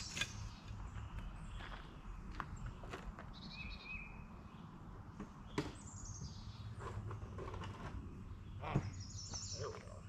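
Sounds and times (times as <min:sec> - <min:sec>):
small birds singing: 0:00.0 - 0:10.0.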